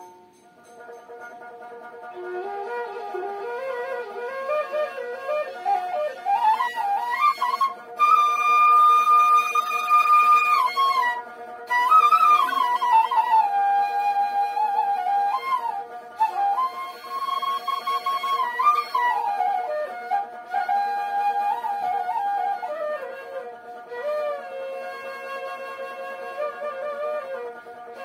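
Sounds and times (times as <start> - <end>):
flute playing folk melody: 0.0 - 28.0.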